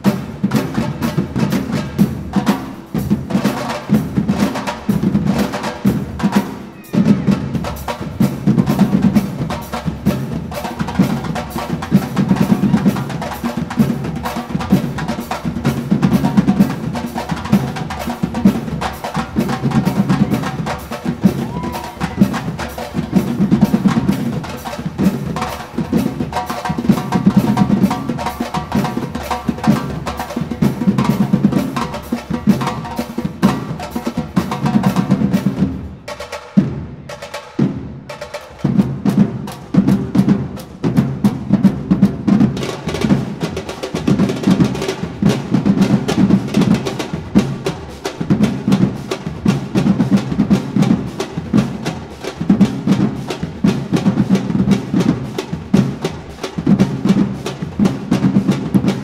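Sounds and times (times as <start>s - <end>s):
drum ensemble playing: 0.0s - 59.0s.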